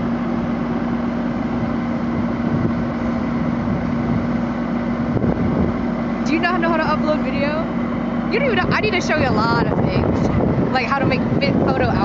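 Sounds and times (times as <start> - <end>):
large vehicle engine running: 0.0 - 12.0.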